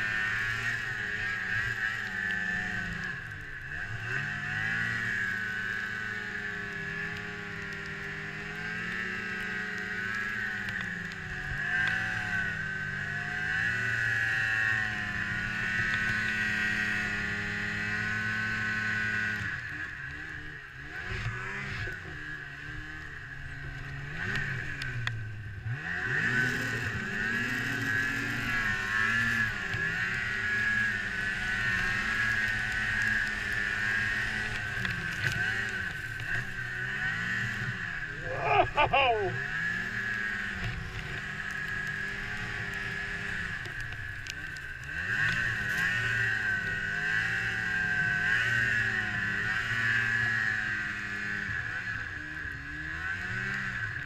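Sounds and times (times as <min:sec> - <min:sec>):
snowmobile engine under throttle: 0:00.0 - 0:54.0.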